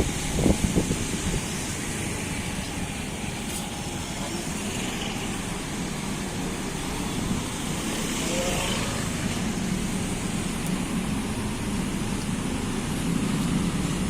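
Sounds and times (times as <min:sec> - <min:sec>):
motor vehicle rumbling: 0:00.0 - 0:14.0.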